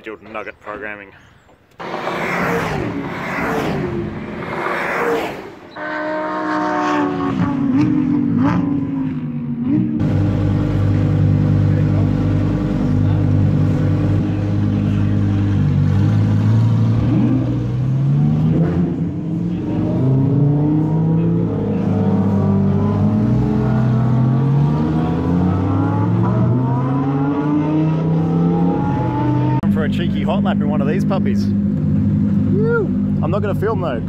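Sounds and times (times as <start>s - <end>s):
sports car engine accelerating: 1.8s - 34.0s.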